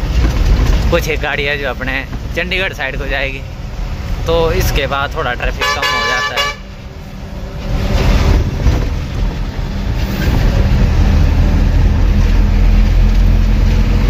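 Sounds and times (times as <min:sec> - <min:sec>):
road and tyre noise: 0:00.0 - 0:14.0
truck diesel engine drone: 0:00.0 - 0:14.0.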